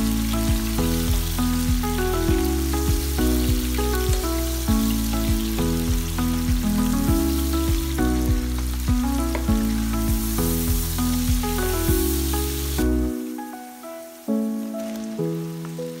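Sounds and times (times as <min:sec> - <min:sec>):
music with beat and bass line: 0:00.0 - 0:13.2
onions sizzling in hot oil: 0:00.0 - 0:16.0.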